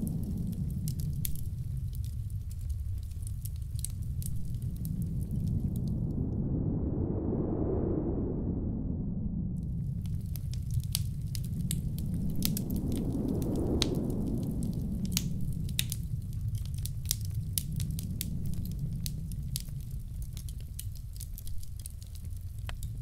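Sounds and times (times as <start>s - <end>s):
wood fire crackling and popping: 0.0s - 6.1s, 9.6s - 23.0s
low rumble of wind: 0.0s - 23.0s.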